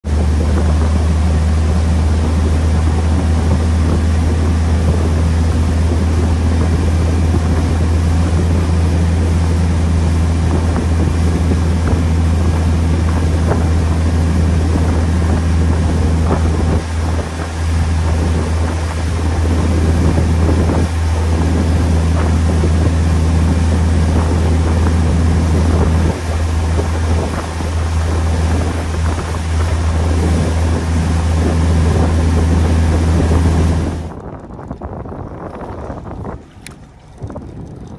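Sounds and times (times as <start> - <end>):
boat engine droning: 0.0 - 37.9
wind on microphone: 0.0 - 37.9.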